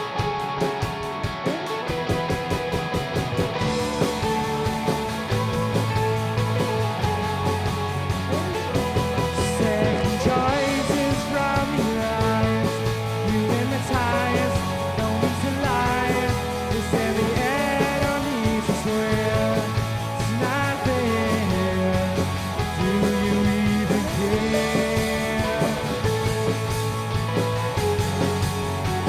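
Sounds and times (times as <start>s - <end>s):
electric guitar with bent notes: 0.0s - 29.0s
held bass notes: 2.0s - 29.0s.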